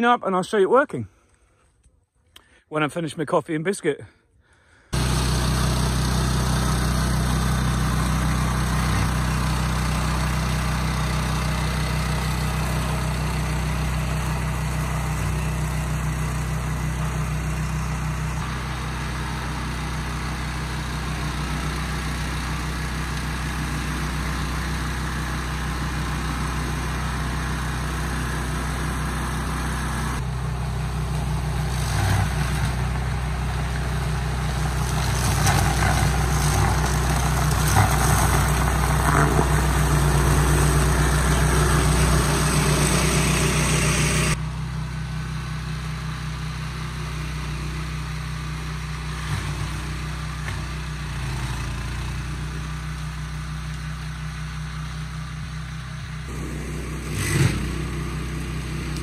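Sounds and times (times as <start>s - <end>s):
brush cutter engine running: 4.6s - 44.4s, 46.7s - 59.0s.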